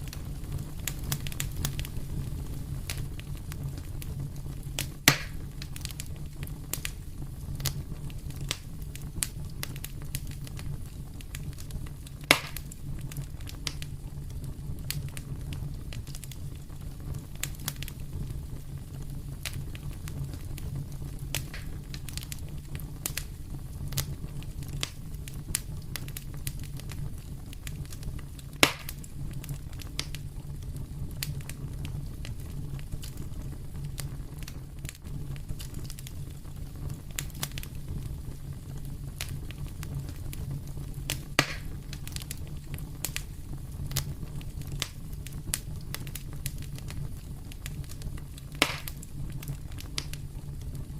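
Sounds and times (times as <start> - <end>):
fire crackling in fireplace: 0.0 - 50.9
sharp fire pops: 0.0 - 50.9.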